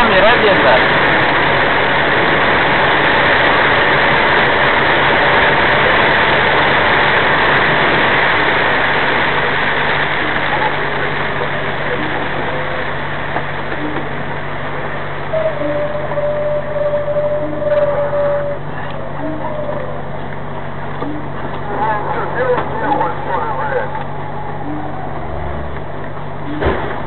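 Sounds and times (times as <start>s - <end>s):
heavy rain hammering on truck cab: 0.0s - 27.0s
truck engine drone: 0.0s - 27.0s.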